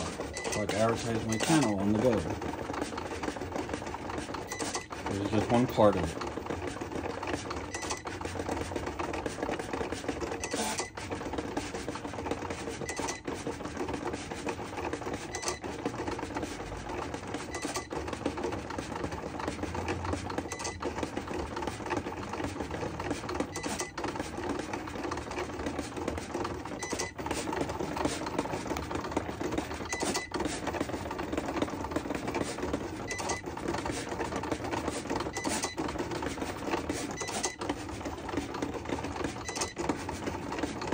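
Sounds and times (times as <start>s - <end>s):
cutting machine motors whirring: 0.0s - 40.9s.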